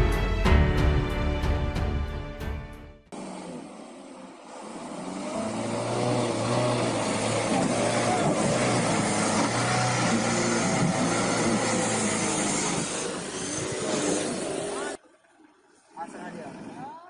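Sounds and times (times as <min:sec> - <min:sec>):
vehicle engine running: 0:03.1 - 0:17.0.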